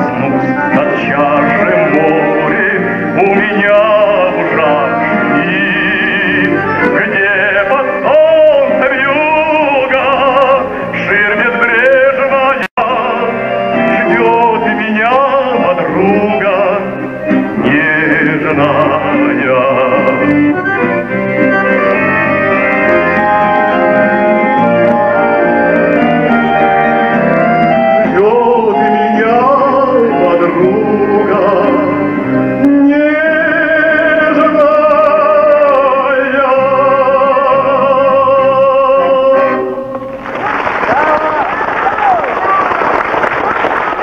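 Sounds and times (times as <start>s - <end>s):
man singing with vibrato: 0.0s - 40.2s
accordions playing: 0.0s - 40.3s.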